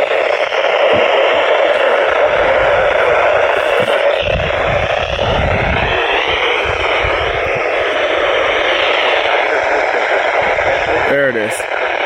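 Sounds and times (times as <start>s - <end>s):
low rumbling bursts: 0.0s - 12.0s
radio static hiss: 0.0s - 12.0s.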